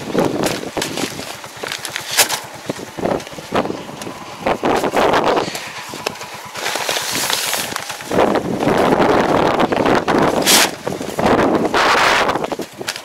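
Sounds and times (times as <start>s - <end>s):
tractor engine: 0.0s - 13.0s
wind buffeting microphone: 0.0s - 13.0s.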